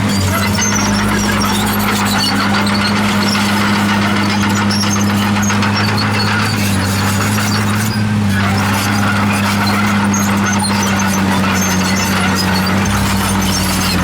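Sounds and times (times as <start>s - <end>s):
bulldozer diesel engine droning: 0.0s - 14.0s
faint high squeaks: 0.0s - 14.0s.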